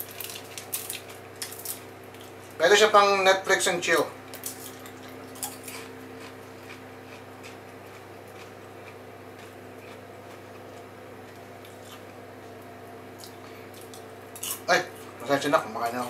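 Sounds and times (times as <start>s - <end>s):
steady low appliance hum: 0.0s - 16.0s.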